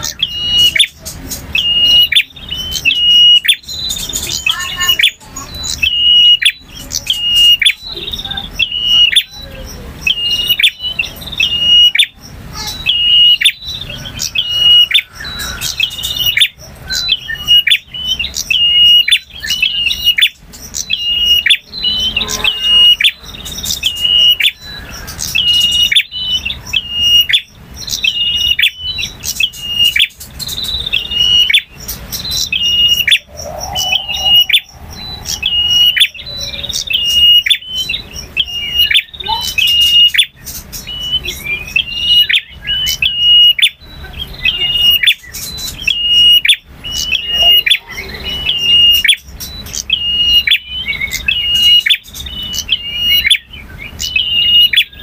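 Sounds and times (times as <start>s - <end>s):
bird chirping rapidly: 0.0s - 55.0s.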